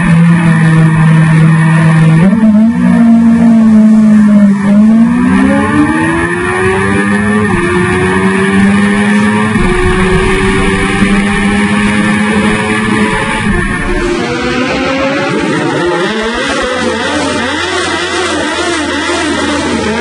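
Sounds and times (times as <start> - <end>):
motorcycle engine at full throttle: 0.0 - 20.0.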